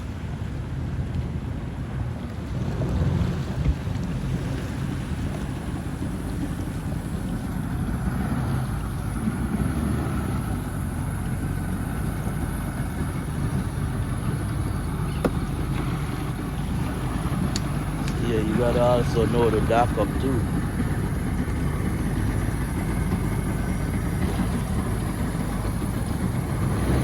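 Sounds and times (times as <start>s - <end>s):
jet ski running on water: 0.0s - 27.0s
wind rumbling on microphone: 0.0s - 27.0s.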